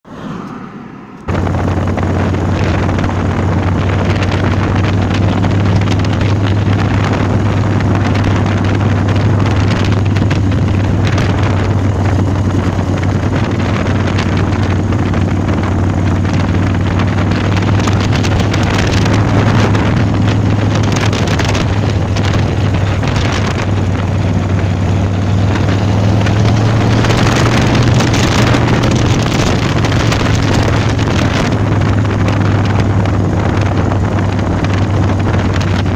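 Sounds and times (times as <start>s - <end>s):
motorcycle engine running: 1.3s - 35.9s
wind buffeting microphone: 1.3s - 35.9s.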